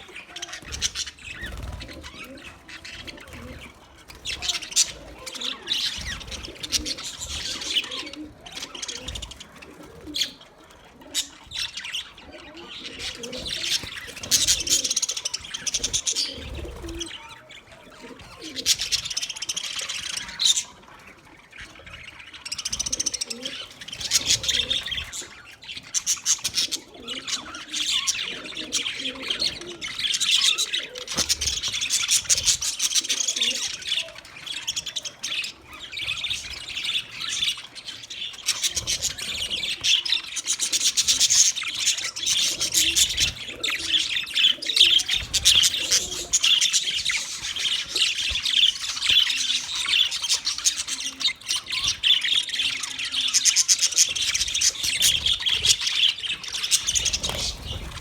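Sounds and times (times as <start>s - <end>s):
budgerigars chirping: 0.2s - 10.4s, 11.1s - 20.9s, 21.6s - 58.0s.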